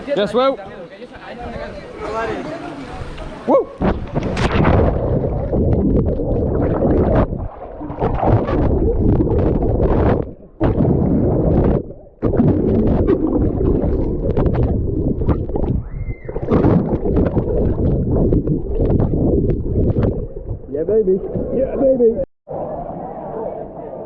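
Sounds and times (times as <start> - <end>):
water rushing and gurgling: 1.7 - 21.5.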